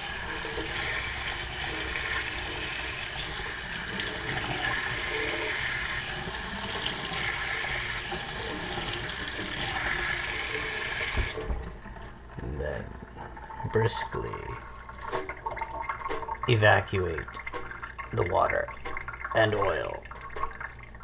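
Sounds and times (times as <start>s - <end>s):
water running into a tin: 0.0s - 11.9s, 13.1s - 21.0s.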